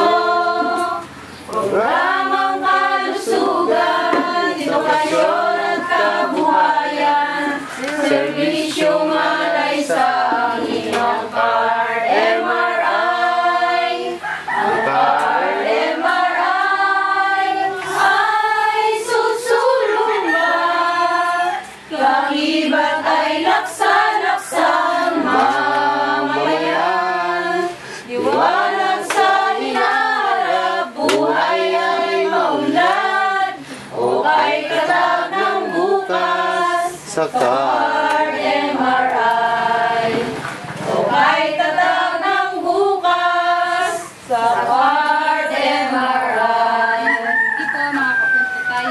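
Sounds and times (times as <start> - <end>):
women singing together: 0.0 - 48.9.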